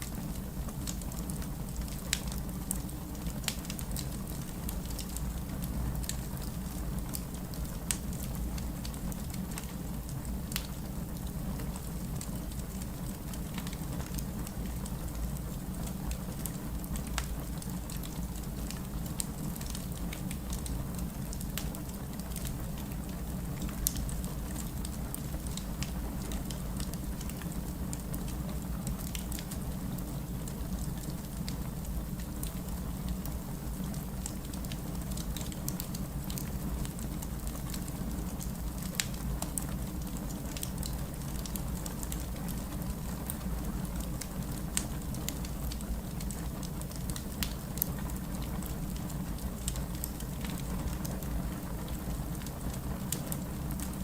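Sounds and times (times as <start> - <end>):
fireplace crackling and popping: 0.0 - 54.0
rain: 0.0 - 54.0.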